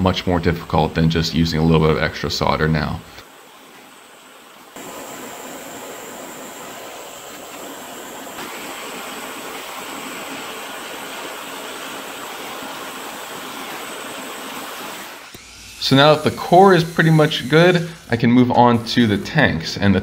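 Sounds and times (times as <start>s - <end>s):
gas torch flame hissing: 0.6s - 20.0s.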